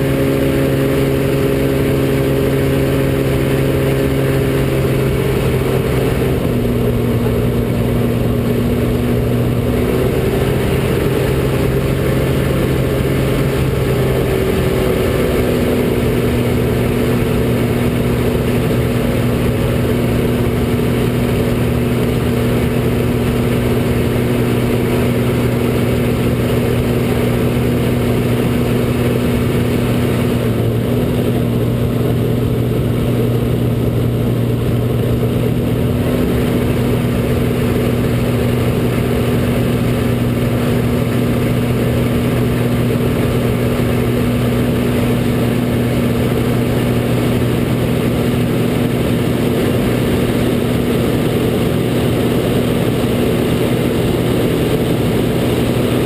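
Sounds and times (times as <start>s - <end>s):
airplane engine drone: 0.0s - 56.0s.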